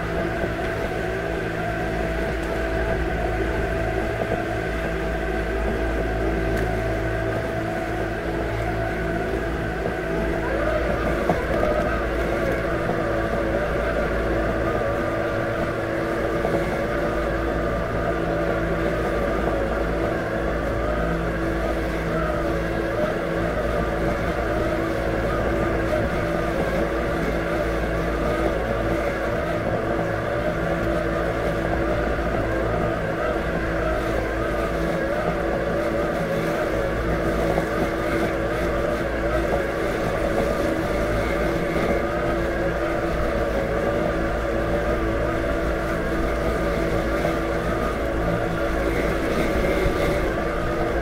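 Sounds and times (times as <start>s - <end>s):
robotic lawn mower motors humming: 0.0s - 51.0s.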